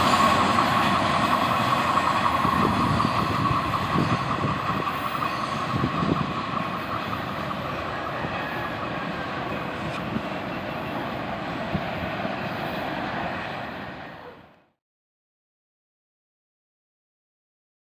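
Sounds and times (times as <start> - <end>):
train wheels rumbling on rails: 0.0 - 14.7.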